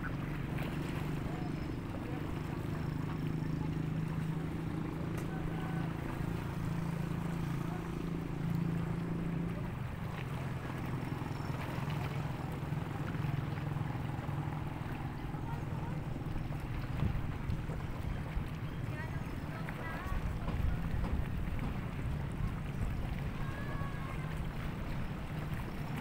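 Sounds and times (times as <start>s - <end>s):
motorboat engine droning: 0.0s - 26.0s
wind and water wash: 0.0s - 26.0s.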